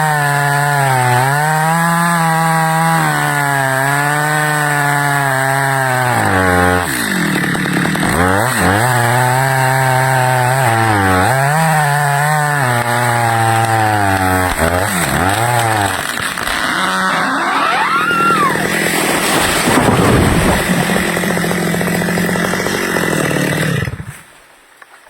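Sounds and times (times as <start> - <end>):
chainsaw cutting wood: 0.0 - 24.3.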